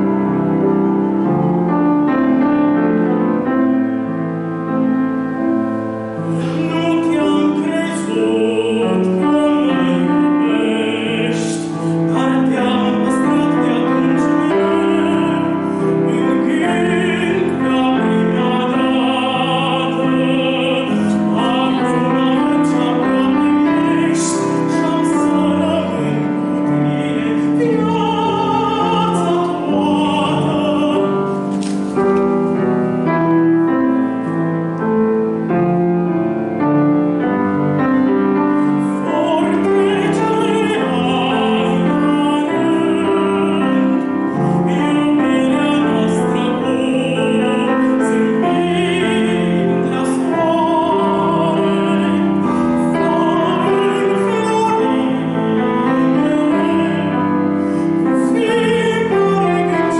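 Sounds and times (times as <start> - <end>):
piano accompaniment: 0.0 - 59.9
countertenor singing with vibrato: 6.0 - 34.0, 36.6 - 59.9.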